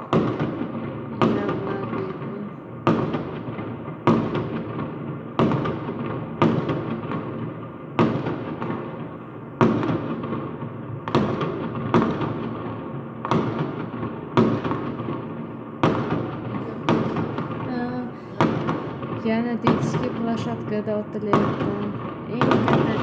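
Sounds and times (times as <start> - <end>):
fireworks bangs echoing: 0.0 - 23.0.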